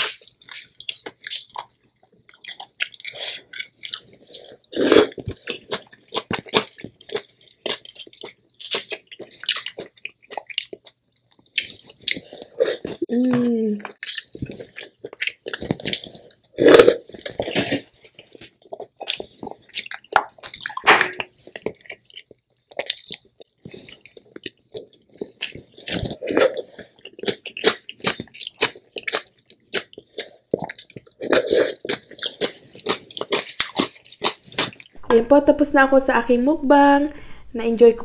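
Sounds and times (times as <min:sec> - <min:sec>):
wet chewing and lip smacks: 0:00.0 - 0:13.0, 0:13.8 - 0:20.8, 0:21.4 - 0:35.0.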